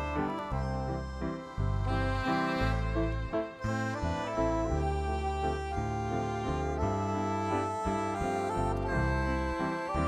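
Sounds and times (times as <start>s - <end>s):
instrumental melody: 0.0s - 10.0s
stepping bass line: 0.0s - 10.0s.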